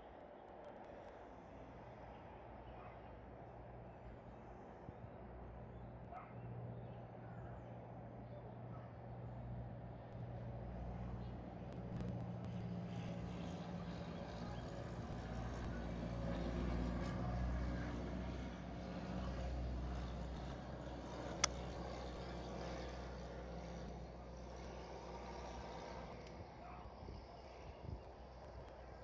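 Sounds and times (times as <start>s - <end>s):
vehicle engine humming: 1.3s - 26.7s.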